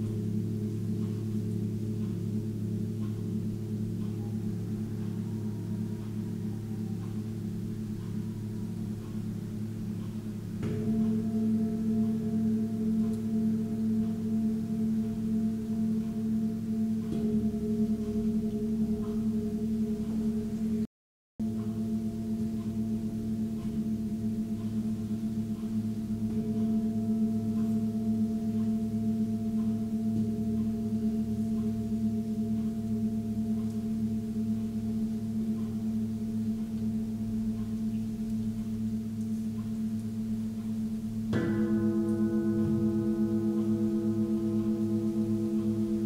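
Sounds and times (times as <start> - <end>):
bowl struck: 0.0 - 46.0
singing bowls ringing: 0.0 - 46.0.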